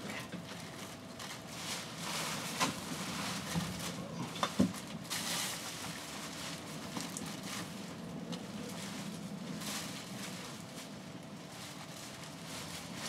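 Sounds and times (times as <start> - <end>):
plastic bags rustling: 0.5 - 13.0.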